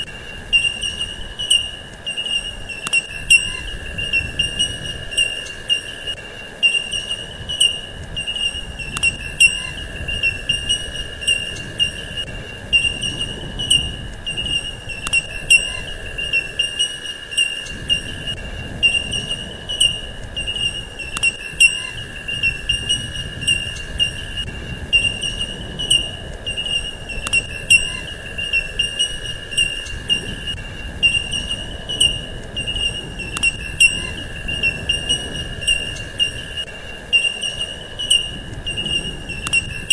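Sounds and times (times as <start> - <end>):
faint regular ticks: 0.0 - 39.9
high-pitched insect-like chirring: 0.0 - 39.9
low steady tone: 0.0 - 39.9.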